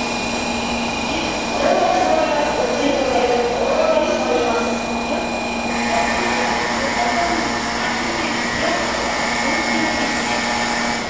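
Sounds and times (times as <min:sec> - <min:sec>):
train equipment whirring hum: 0:00.0 - 0:11.0.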